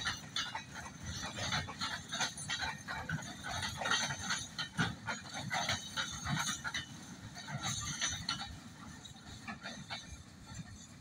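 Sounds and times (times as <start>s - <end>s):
freight wagons clanking and rattling: 0.0s - 11.0s.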